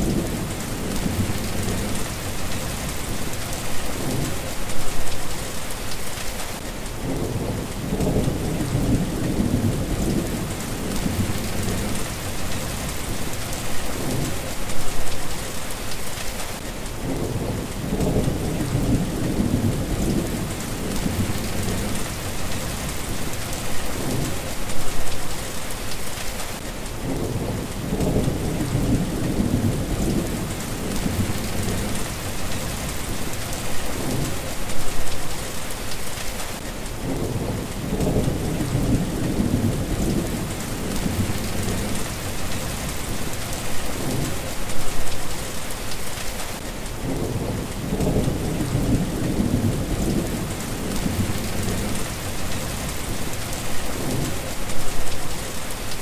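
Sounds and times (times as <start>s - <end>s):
low thunder rumbles: 0.0s - 4.9s, 7.0s - 14.9s, 17.0s - 25.1s, 27.0s - 35.2s, 37.0s - 45.1s, 47.0s - 55.1s
steady rain falling: 0.0s - 56.0s.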